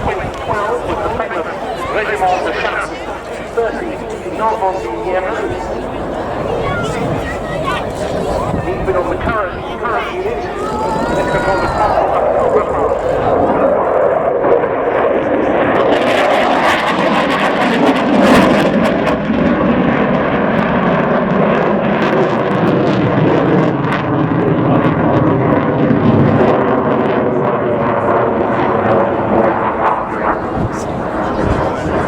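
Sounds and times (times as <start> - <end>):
jet engine noise crackling: 0.0 - 32.0.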